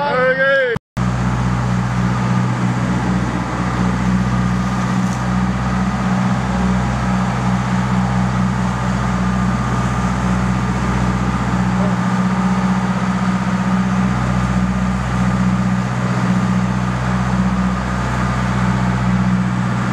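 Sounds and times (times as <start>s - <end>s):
boat engine droning: 1.0s - 19.9s
water rushing from wake: 1.0s - 19.9s.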